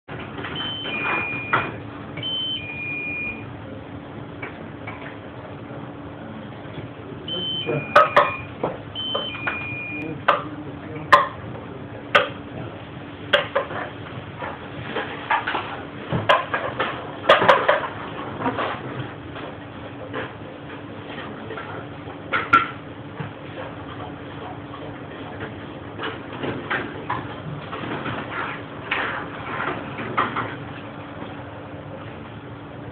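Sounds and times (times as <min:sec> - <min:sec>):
steady machine hum: 0:00.1 - 0:32.9.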